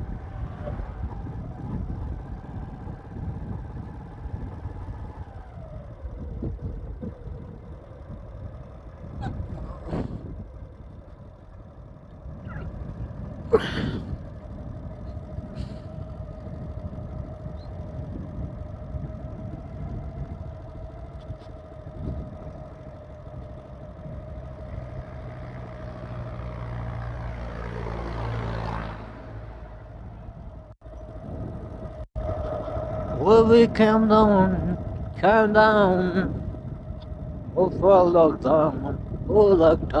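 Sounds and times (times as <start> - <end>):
motorcycle engine running: 0.0 - 40.0
road rumble: 0.0 - 40.0
wind: 0.0 - 40.0.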